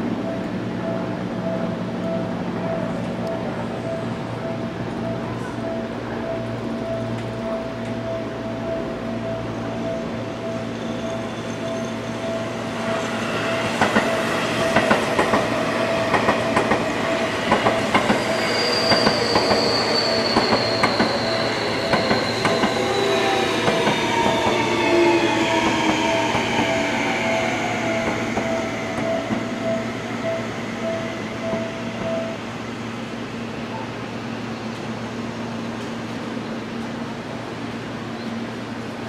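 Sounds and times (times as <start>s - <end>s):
level crossing warning bell: 0.1s - 32.5s.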